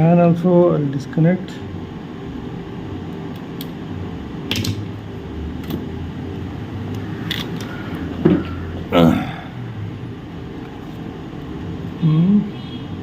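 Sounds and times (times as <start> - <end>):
room fan humming: 0.0 - 13.0.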